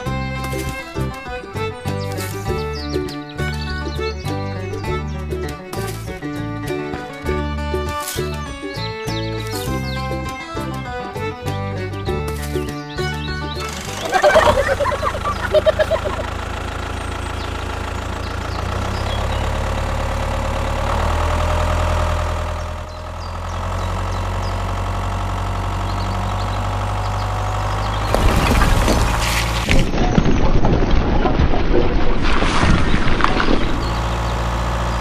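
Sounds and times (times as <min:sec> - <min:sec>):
clattering engine: 0:00.0 - 0:32.2, 0:32.8 - 0:35.0
tractor engine humming: 0:00.0 - 0:35.0.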